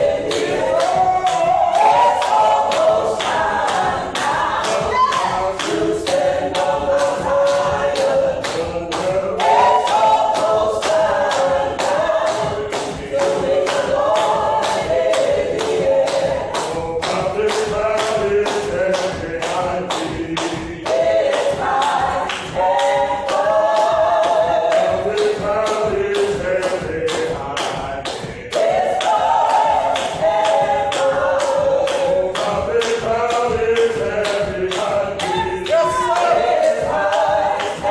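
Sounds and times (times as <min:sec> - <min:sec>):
choir singing a cappella: 0:00.0 - 0:37.9
sharp hand claps: 0:00.2 - 0:37.9.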